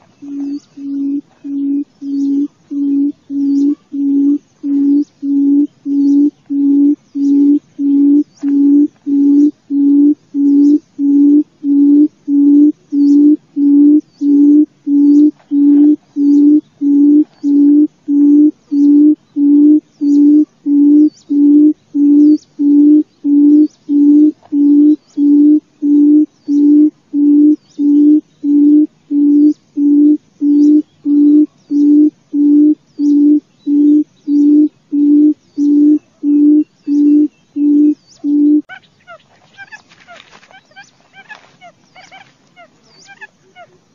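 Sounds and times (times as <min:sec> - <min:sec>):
bird booming hoot: 0:00.0 - 0:38.7.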